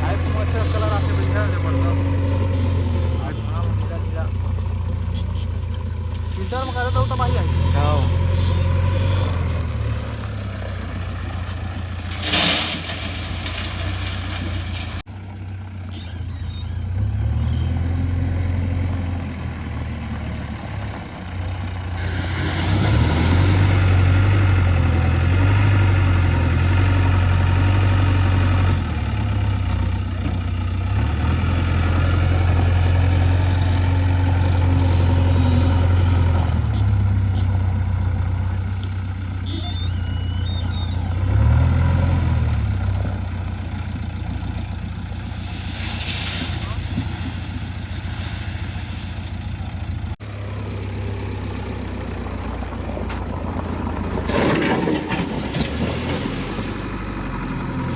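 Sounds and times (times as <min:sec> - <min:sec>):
diesel engine revving: 0:00.0 - 0:57.9.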